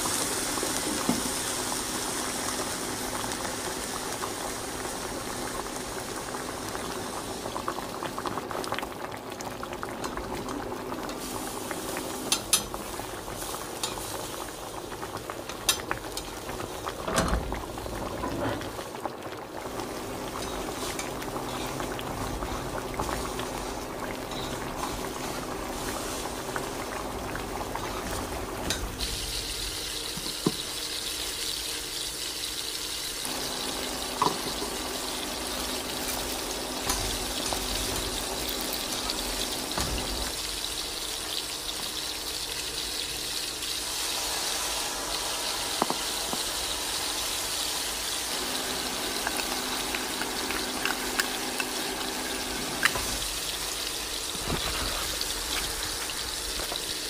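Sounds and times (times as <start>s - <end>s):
pot of liquid boiling: 0.0s - 57.0s.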